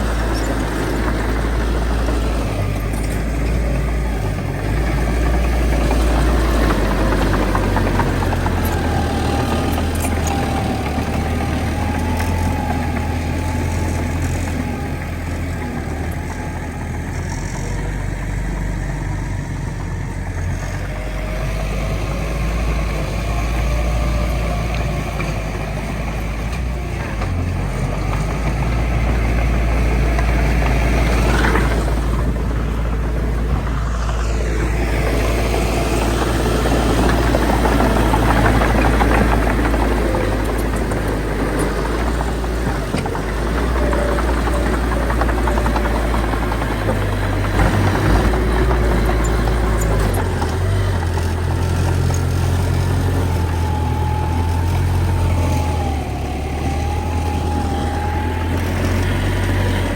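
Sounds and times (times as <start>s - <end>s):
bulldozer diesel engine rumble: 0.0s - 59.9s.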